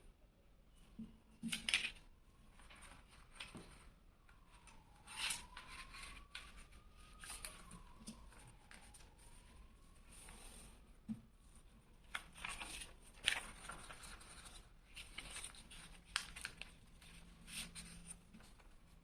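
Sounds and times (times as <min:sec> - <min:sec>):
paper crinkling and creasing: 0:01.4 - 0:10.8, 0:11.5 - 0:19.0.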